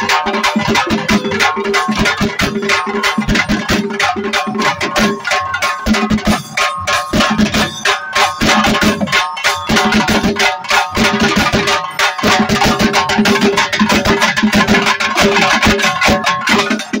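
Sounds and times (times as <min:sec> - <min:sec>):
drum band playing fast rhythm: 0:00.0 - 0:17.0.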